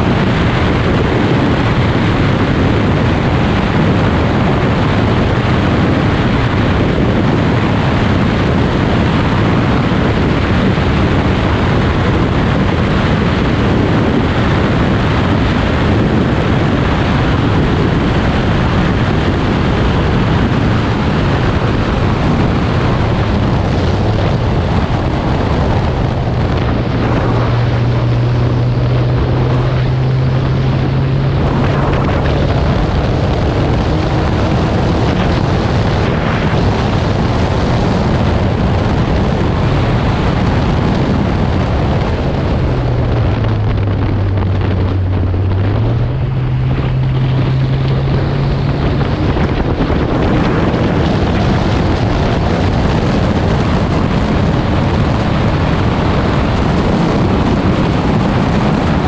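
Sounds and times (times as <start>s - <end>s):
car engine at speed: 0.0s - 59.0s
wind rush on microphone: 0.0s - 59.0s.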